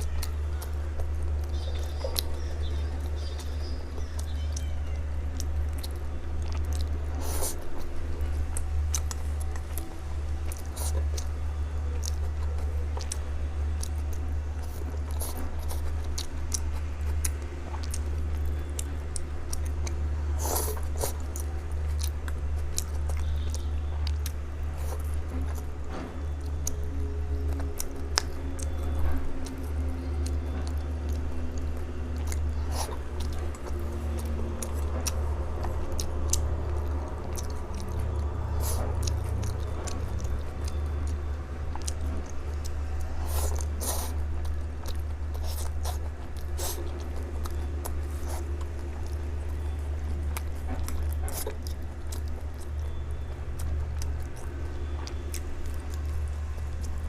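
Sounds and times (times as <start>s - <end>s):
mouth clicks: 0.0s - 57.0s
person biting and chewing: 0.0s - 57.0s
steady low hum: 0.0s - 57.0s.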